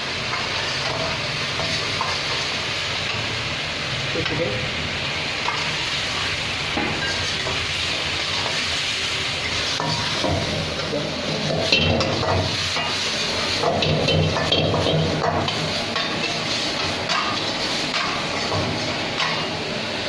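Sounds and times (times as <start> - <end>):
sauce sizzling in a pan: 0.0 - 20.0.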